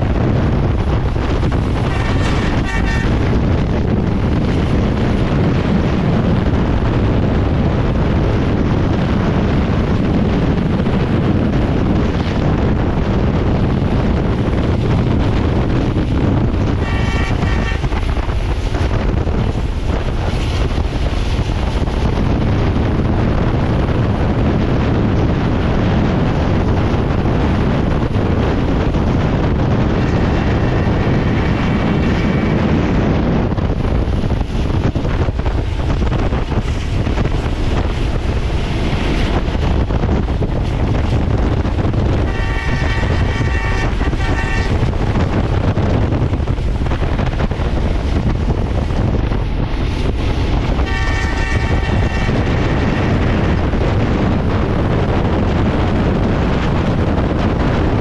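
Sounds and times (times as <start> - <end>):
train wheels rumbling on rails: 0.0 - 58.0
wind buffeting microphone: 0.0 - 58.0.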